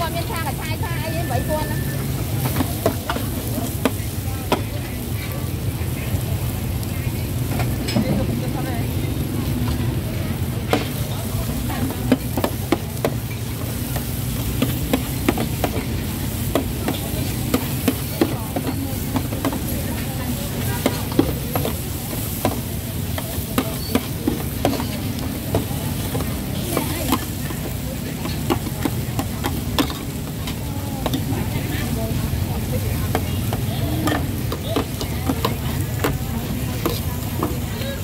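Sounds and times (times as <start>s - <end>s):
food sizzling: 0.0s - 38.0s.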